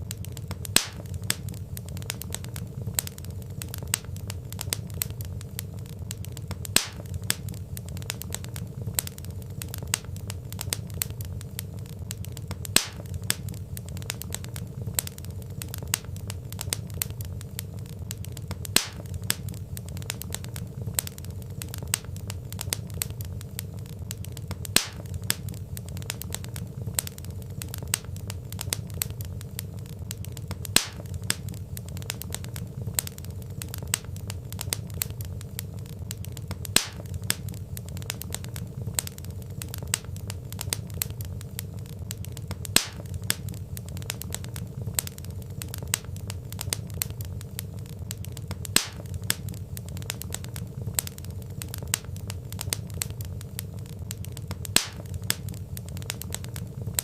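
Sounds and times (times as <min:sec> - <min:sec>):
low rumble of flames: 0:00.0 - 0:57.0
wood fire crackling: 0:00.0 - 0:57.0
loud pop from the fire: 0:00.1 - 0:57.0.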